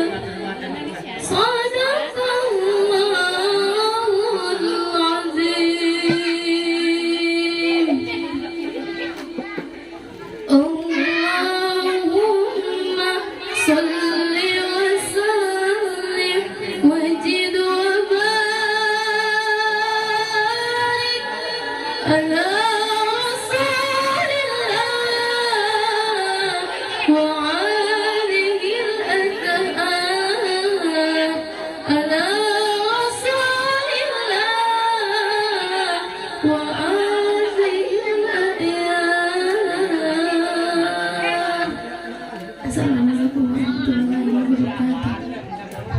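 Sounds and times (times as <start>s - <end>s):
woman reciting melodically: 0.0s - 45.9s.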